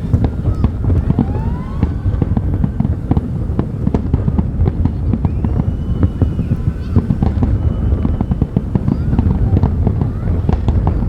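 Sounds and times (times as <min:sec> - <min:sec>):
fireworks bangs and crackles: 0:00.0 - 0:11.0
low rumble: 0:00.0 - 0:11.0
rising firework whistles: 0:00.0 - 0:11.0.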